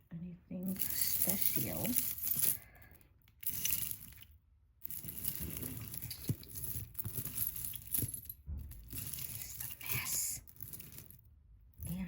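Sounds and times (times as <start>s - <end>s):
jewelry rustling and crinkling: 0.6s - 12.0s.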